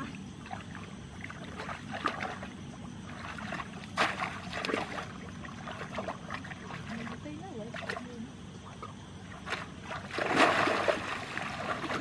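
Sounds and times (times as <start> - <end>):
muddy water splashing: 0.0 - 12.0.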